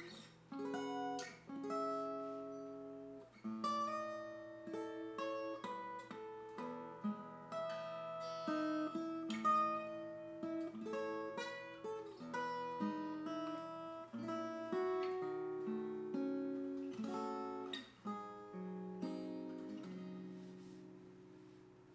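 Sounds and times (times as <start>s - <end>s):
strummed guitar chords: 0.0s - 21.7s
acoustic guitar picked melody: 0.0s - 21.9s.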